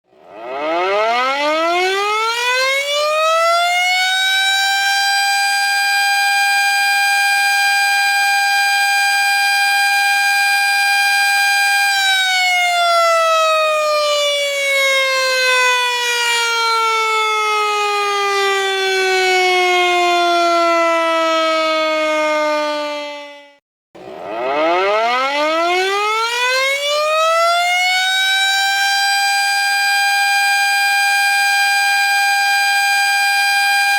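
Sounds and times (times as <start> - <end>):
warning siren wailing: 0.0 - 33.9.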